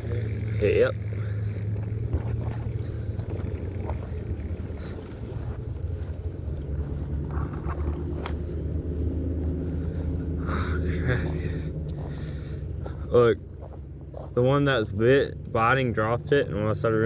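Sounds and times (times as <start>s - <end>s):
motor low rumble: 0.0s - 17.0s.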